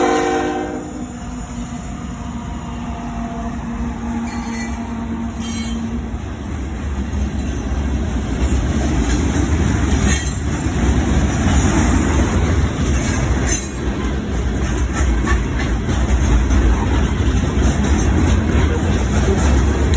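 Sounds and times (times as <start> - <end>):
train rumbling on rails: 0.0 - 19.9.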